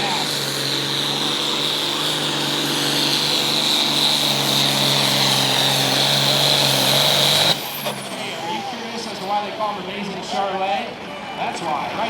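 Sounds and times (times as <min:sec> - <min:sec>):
tractor engine running flat out: 0:00.0 - 0:09.8.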